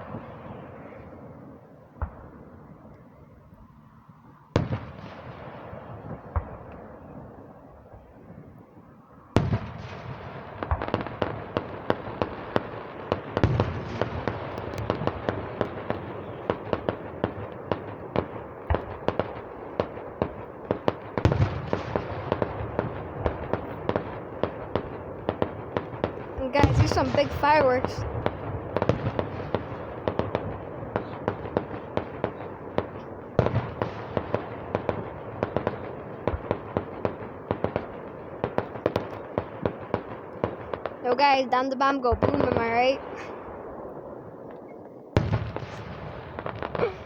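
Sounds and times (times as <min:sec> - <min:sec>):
fireworks booms: 0:00.0 - 0:02.9, 0:04.4 - 0:47.0
fireworks bangs: 0:00.0 - 0:03.7, 0:04.3 - 0:47.0
fireworks crackling pops: 0:01.9 - 0:03.2, 0:04.5 - 0:08.7, 0:09.3 - 0:47.0.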